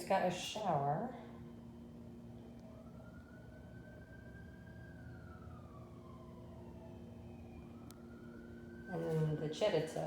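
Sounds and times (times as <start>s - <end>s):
faint siren wailing: 1.0s - 10.0s.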